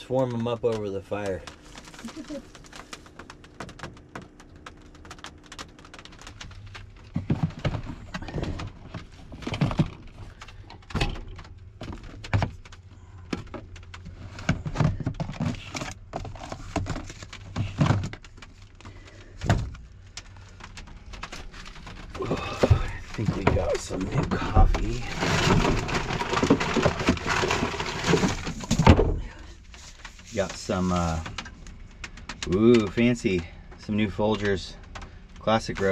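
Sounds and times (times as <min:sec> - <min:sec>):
camping gear knocking and rustling: 0:00.0 - 0:33.8.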